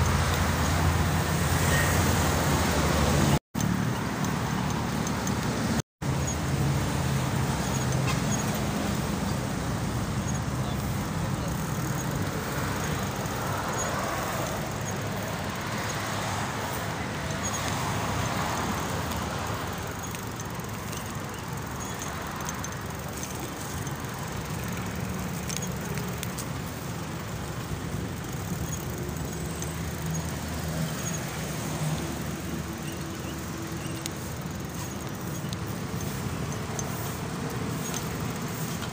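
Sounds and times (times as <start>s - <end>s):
street traffic rumble: 0.0s - 38.9s.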